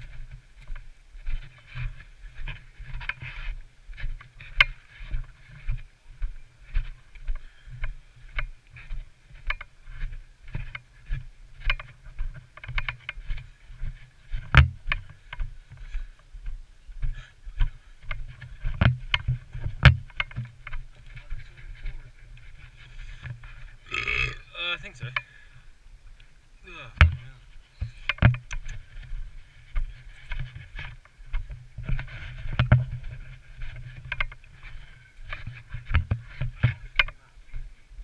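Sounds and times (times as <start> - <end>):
footsteps walking: 0.0 - 24.4, 27.0 - 38.0.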